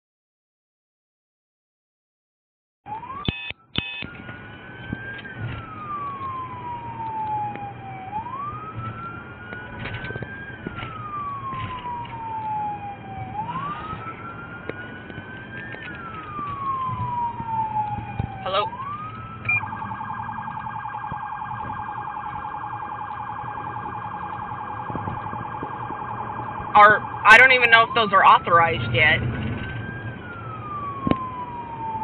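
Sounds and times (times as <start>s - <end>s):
police siren wailing: 2.9s - 32.0s
low engine hum: 4.1s - 27.6s, 28.2s - 32.0s.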